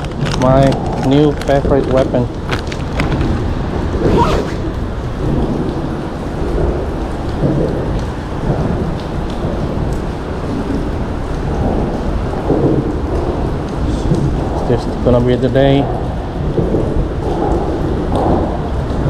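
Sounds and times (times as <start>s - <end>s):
rain and wind rumble on microphone: 0.0s - 19.0s.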